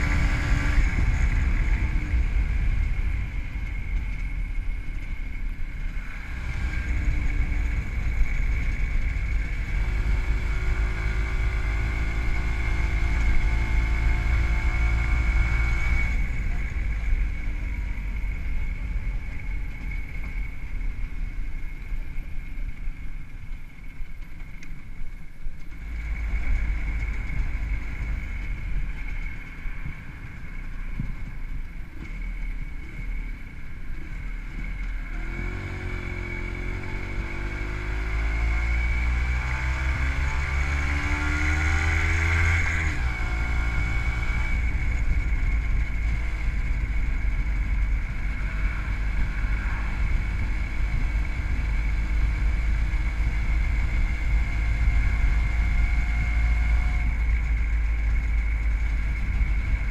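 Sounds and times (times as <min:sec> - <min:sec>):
two-stroke motorcycle engine: 0:00.0 - 0:24.7, 0:25.5 - 0:59.9
wind rumble on microphone: 0:00.0 - 0:59.9.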